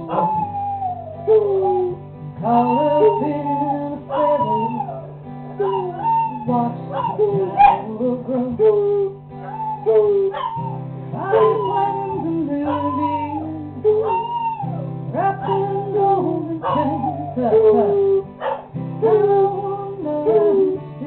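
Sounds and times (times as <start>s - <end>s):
dogs howling: 0.0s - 20.8s
guitar chords: 0.0s - 21.0s.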